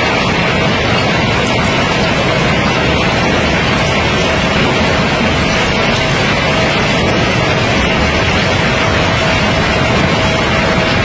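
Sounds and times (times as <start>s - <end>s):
pebbles rattling down concrete chute: 0.0s - 11.0s.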